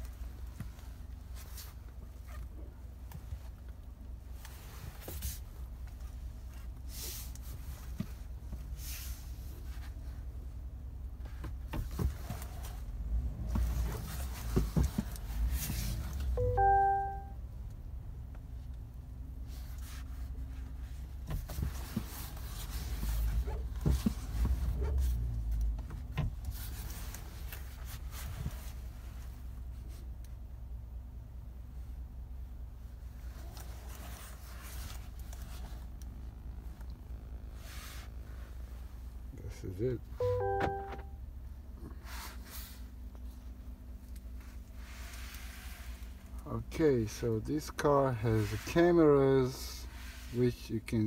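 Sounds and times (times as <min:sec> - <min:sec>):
truck cab rumble: 0:00.0 - 0:51.0.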